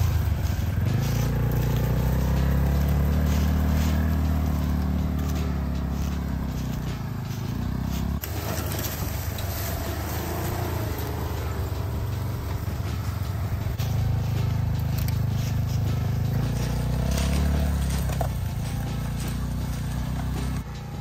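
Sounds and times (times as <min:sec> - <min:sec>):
off-road vehicle engines running: 0:00.0 - 0:21.0.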